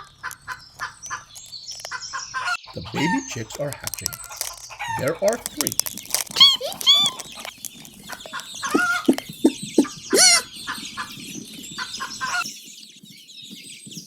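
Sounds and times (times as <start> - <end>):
hens clucking: 0.0 - 12.5.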